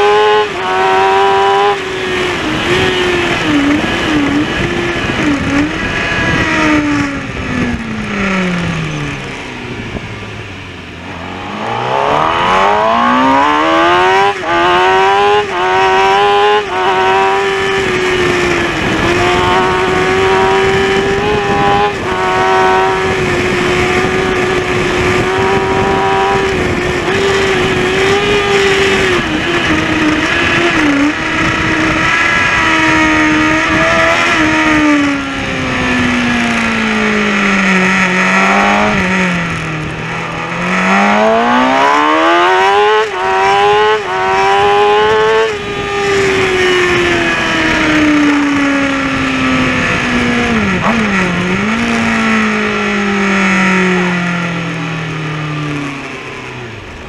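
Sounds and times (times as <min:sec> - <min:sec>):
racing motorcycle engine revving: 0:00.0 - 0:57.0.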